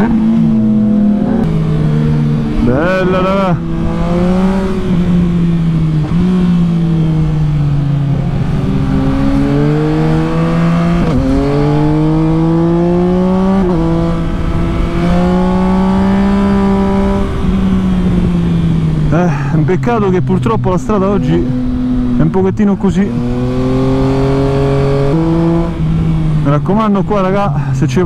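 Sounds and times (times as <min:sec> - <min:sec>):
motorcycle exhaust accelerating: 0:00.0 - 0:26.9.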